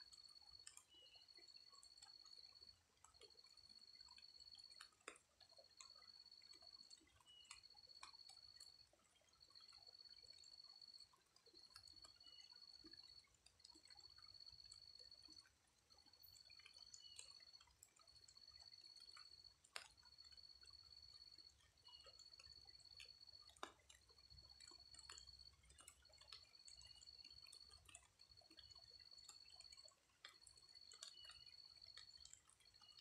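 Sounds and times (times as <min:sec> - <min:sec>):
light rain dripping: 0:00.0 - 0:33.0.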